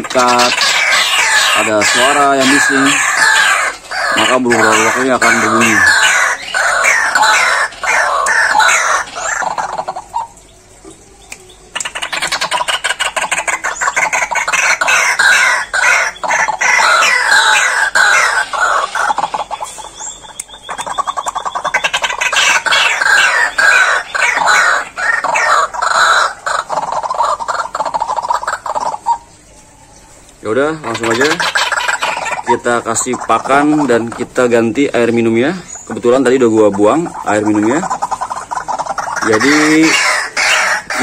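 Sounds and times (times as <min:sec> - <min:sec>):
waterhens calling shrilly: 0:00.0 - 0:41.0.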